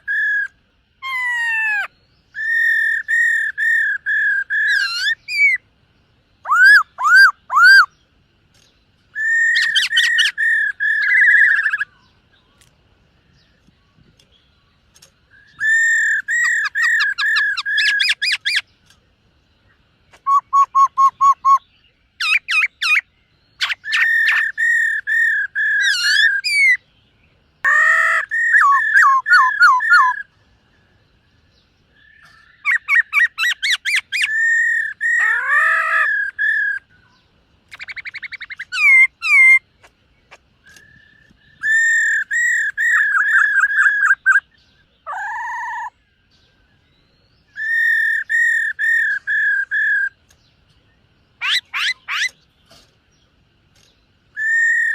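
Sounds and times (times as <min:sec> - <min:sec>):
bird whistled song: 0:00.0 - 0:19.0, 0:19.6 - 0:54.9.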